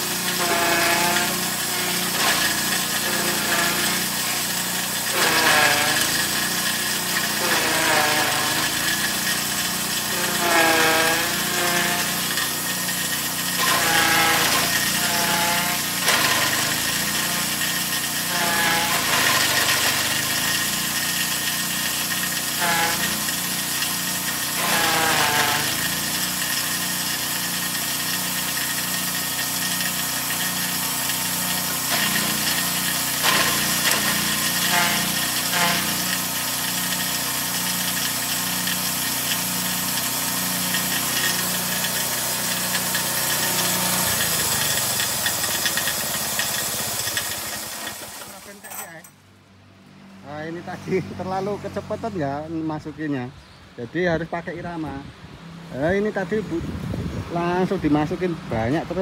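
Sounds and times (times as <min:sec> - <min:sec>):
petrol engine straining: 0:00.0 - 0:49.2.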